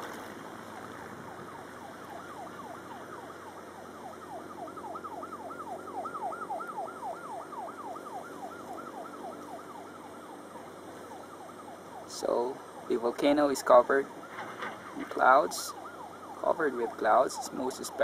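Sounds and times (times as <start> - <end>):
distant yelp siren: 0.0 - 18.0.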